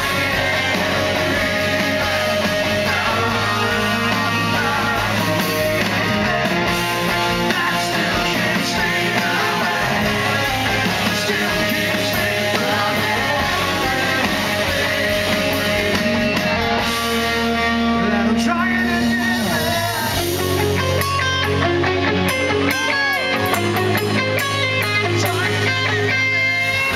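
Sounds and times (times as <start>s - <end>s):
man singing lead vocal: 0.0s - 21.0s, 24.8s - 26.1s
live rock band playing: 0.0s - 26.9s.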